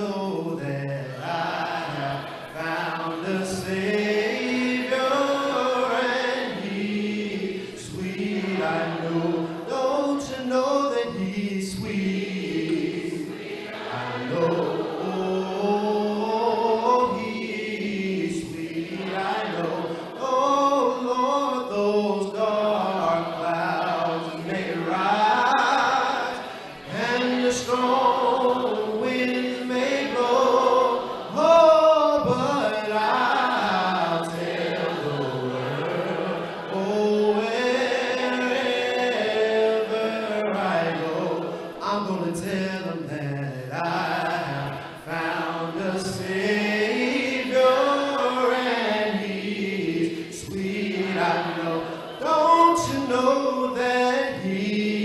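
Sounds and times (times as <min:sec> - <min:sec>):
slow gospel singing: 0:00.0 - 0:55.0.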